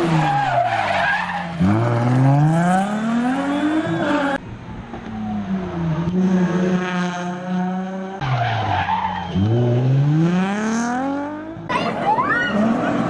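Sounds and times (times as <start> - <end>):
car engine at high revs: 0.0 - 13.0
tyres skidding: 0.0 - 13.0.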